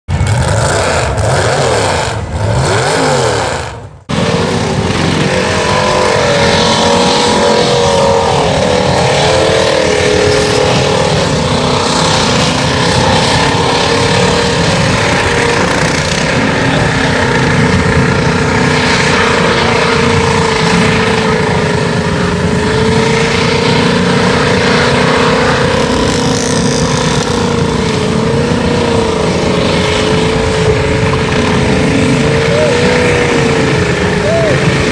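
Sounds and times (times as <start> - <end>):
engine under heavy load: 0.0 - 34.9
intro sweeping tones: 0.1 - 34.9
vehicle pushing through mud: 0.1 - 34.9.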